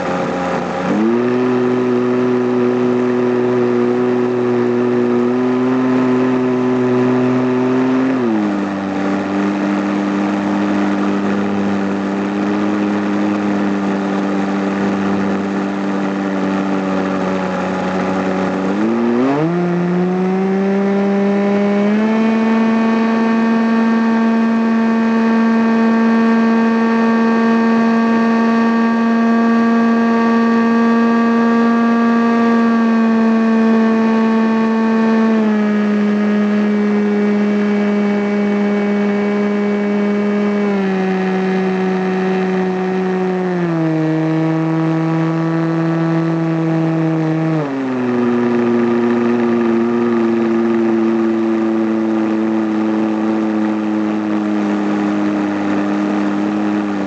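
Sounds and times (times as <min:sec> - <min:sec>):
model airplane engine running: 0:00.0 - 0:57.0.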